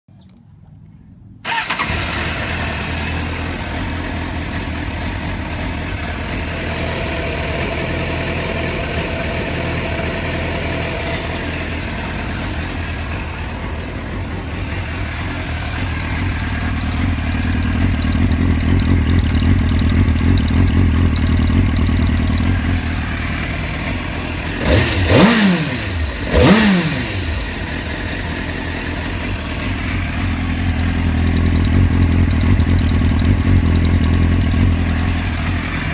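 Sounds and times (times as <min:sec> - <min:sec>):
motorcycle throttle blips: 0:01.4 - 0:35.9
motorcycle engine idling roughly: 0:01.5 - 0:35.9.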